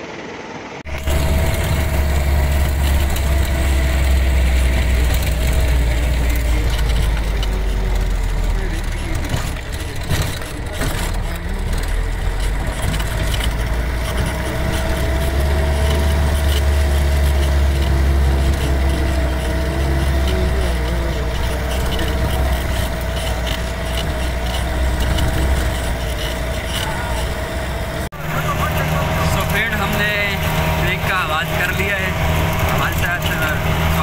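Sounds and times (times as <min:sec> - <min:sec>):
vehicle engine rumbling: 0:00.0 - 0:34.0
vehicle body rattling and knocking: 0:00.8 - 0:34.0.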